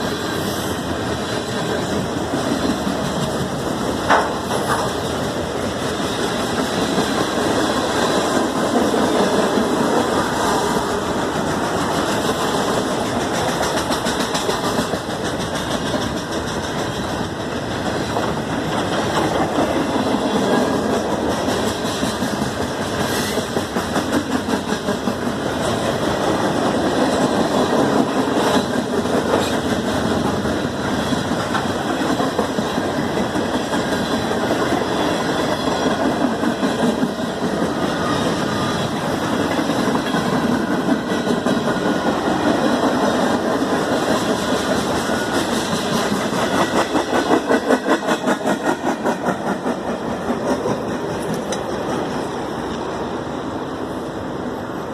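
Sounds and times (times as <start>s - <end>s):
wheels clattering on rails: 0.0s - 54.0s
freight train rumbling: 0.0s - 54.9s.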